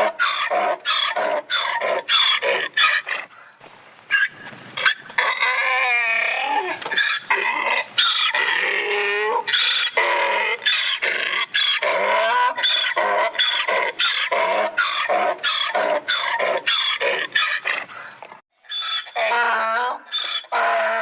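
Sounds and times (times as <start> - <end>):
donkey braying: 0.0 - 3.3, 4.1 - 21.0.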